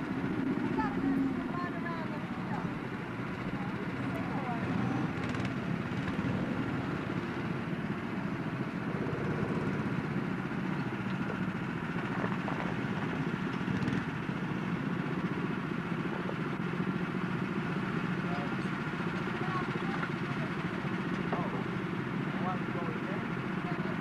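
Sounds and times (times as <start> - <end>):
go-kart engines droning: 0.0 - 24.0.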